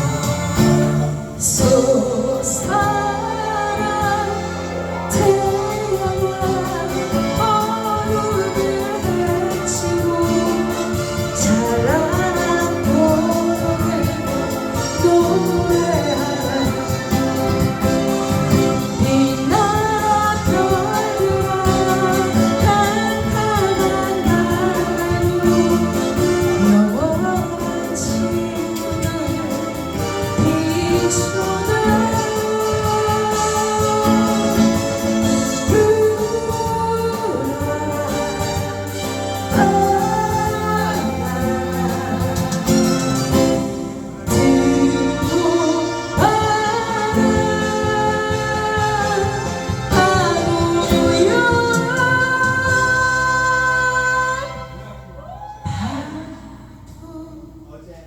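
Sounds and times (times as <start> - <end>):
instrumental accompaniment: 0.0 - 57.2
person singing a ballad: 0.0 - 57.9.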